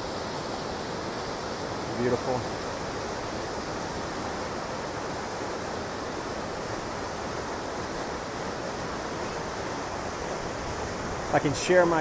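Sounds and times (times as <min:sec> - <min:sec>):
whitewater rushing over boulders: 0:00.0 - 0:12.0.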